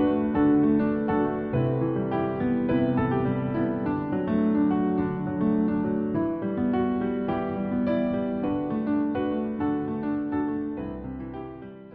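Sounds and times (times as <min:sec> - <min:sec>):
slow solo piano: 0:00.0 - 0:11.9.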